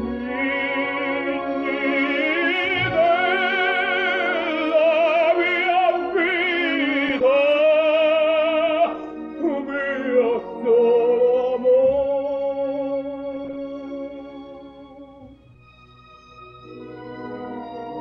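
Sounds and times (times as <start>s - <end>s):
tenor singing opera: 0.0s - 15.4s.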